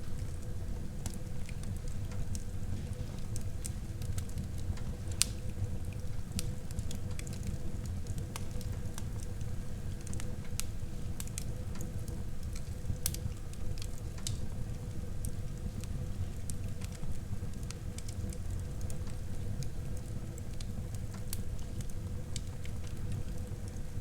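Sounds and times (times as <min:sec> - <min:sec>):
fire crackling and popping: 0:00.0 - 0:24.0
fire flames rumbling: 0:00.0 - 0:24.0.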